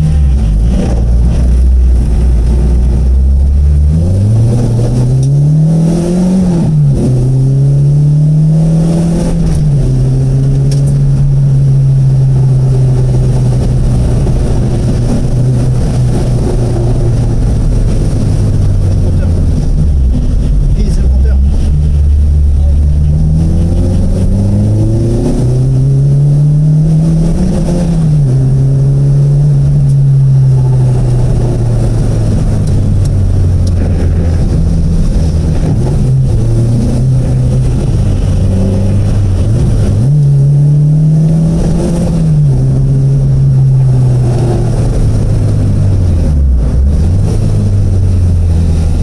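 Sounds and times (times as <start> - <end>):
car engine revving and shifting: 0.0 - 49.0.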